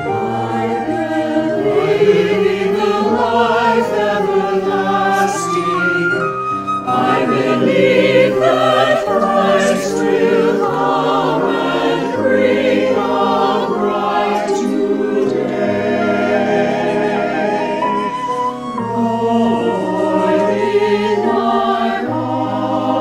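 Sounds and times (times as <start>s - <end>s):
church choir singing: 0.0s - 23.0s
flute playing: 0.0s - 23.0s.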